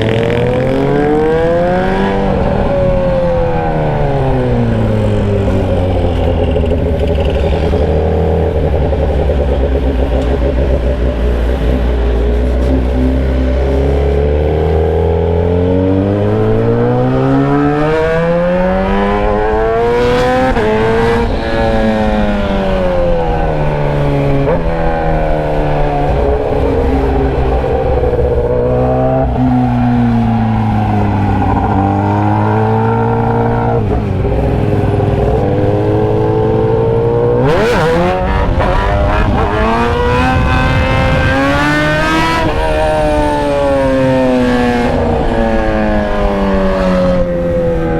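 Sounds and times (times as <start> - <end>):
loud motorcycle engine revving: 0.0 - 47.9.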